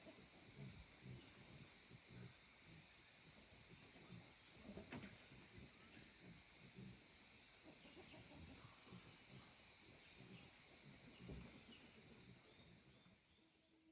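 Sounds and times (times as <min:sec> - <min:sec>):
steady high hiss: 0:00.0 - 0:13.9.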